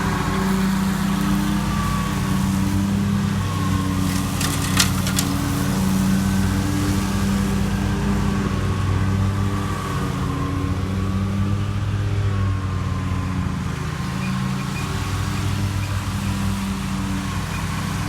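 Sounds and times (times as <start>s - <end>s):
riding lawn mower engine: 0.0s - 18.0s.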